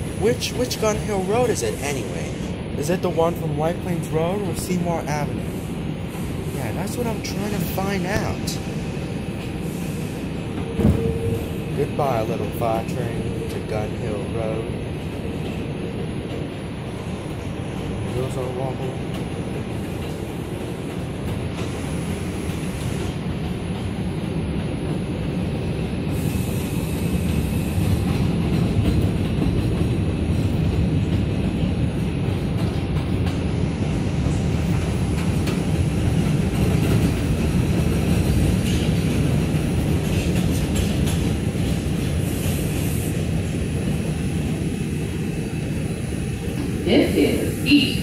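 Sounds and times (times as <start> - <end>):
subway wheels rumbling on track: 0.0 - 48.0.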